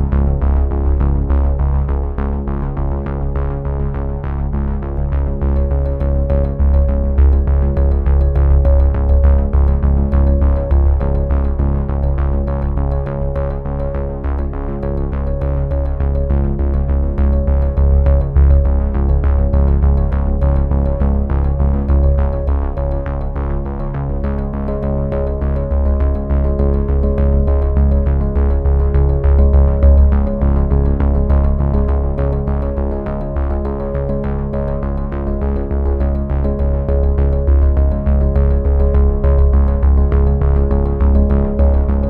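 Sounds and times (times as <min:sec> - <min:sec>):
synthesizer music with electronic beat: 0:05.3 - 0:42.0.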